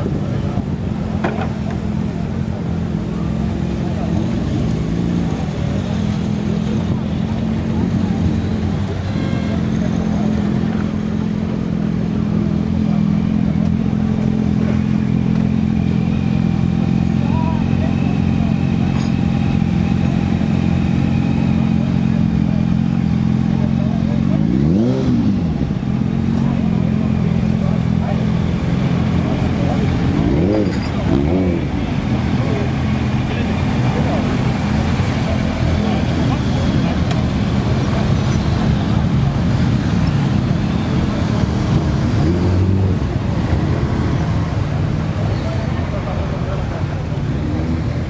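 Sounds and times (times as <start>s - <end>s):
motorcycle engine idling and revving: 0.0s - 48.0s.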